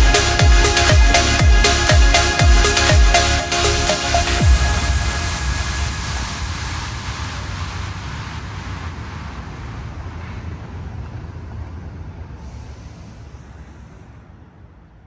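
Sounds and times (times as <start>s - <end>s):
city street rumble: 0.0s - 15.0s.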